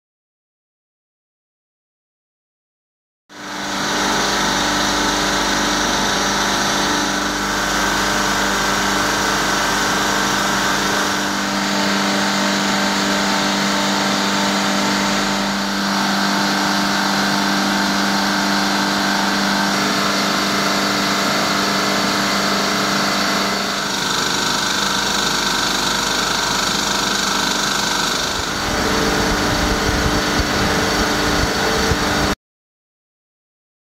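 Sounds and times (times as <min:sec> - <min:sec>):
compressor running with hum: 0:03.3 - 0:32.4.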